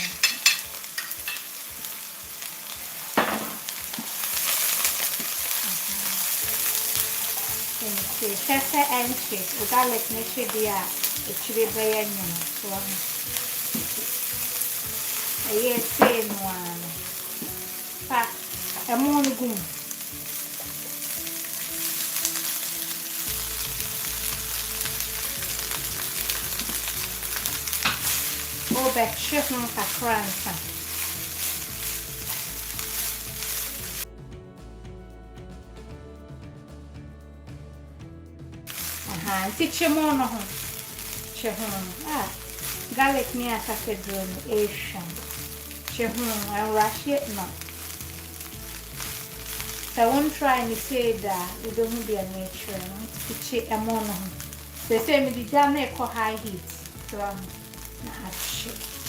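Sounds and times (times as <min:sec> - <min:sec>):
garlic sizzling in hot oil: 0:00.0 - 0:34.1, 0:38.7 - 0:59.0
ticks of stirring in a pan: 0:00.0 - 0:34.1, 0:38.7 - 0:59.0.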